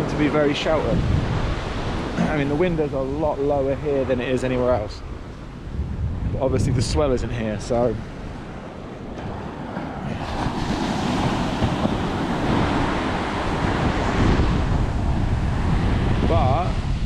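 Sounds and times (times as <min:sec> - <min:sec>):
sea surf washing onto beach: 0:00.0 - 0:17.0
wind buffeting microphone: 0:00.0 - 0:17.0.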